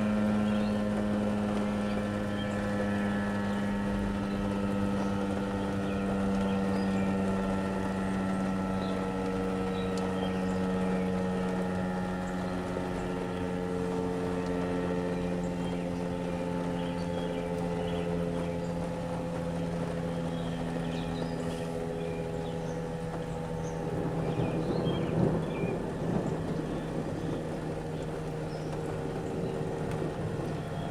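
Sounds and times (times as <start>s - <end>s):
warning sirens: 0.0s - 30.9s.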